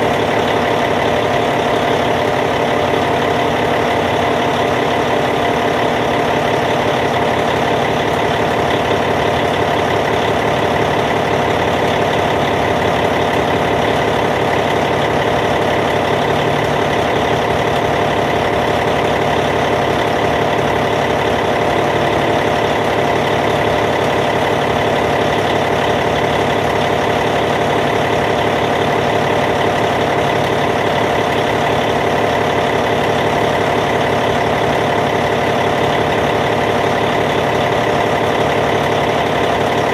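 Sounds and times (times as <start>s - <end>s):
bulldozer diesel engine idling: 0.0s - 39.9s.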